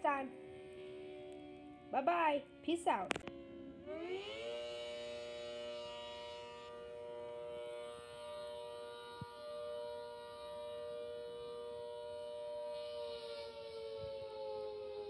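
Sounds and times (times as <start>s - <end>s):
tornado siren wailing: 0.0s - 15.0s.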